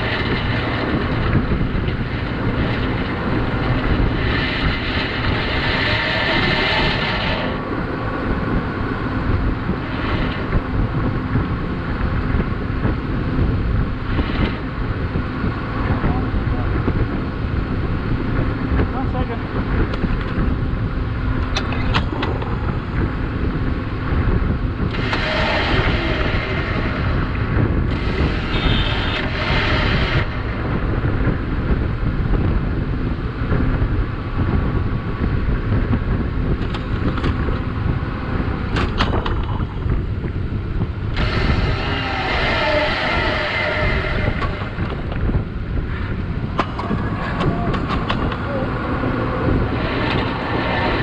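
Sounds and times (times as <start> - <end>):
electric winch whining: 0.0 - 18.7, 20.5 - 35.4, 36.0 - 51.0
wind buffeting microphone: 0.0 - 51.0.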